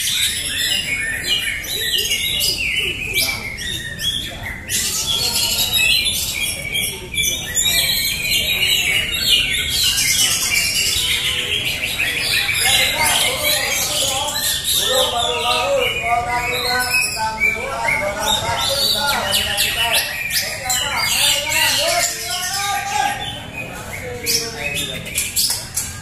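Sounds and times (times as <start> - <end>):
songbirds chirping and whistling: 0.0 - 26.0.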